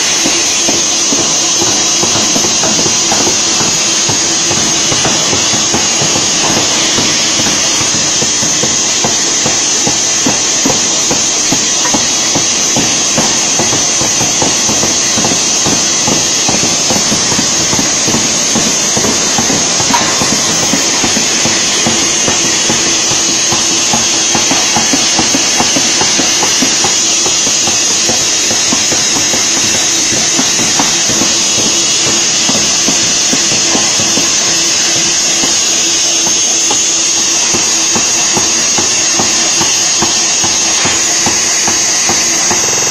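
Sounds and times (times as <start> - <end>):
power hammer striking steel: 0.0 - 42.9
steady high hiss: 0.0 - 42.9.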